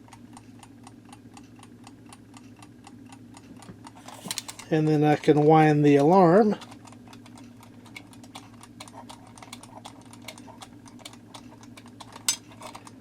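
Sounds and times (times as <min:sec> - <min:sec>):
alarm clock ratchet clicks: 0:00.0 - 0:13.0.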